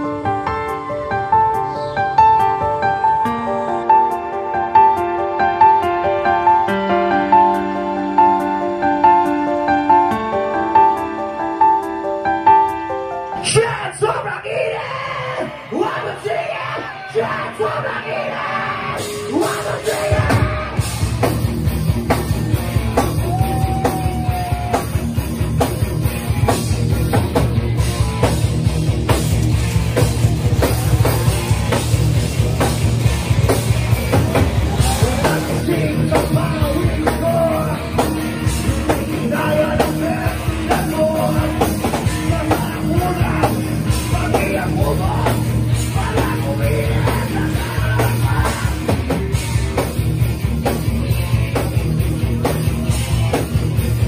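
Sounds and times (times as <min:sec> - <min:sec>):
rock music with singing: 0:00.0 - 0:54.0.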